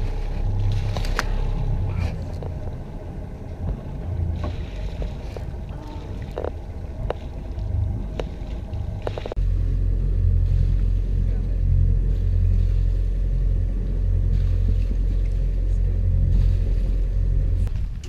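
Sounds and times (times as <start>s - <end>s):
water washing along a hull: 0.0s - 18.0s
wind rumble on microphone: 0.0s - 18.0s.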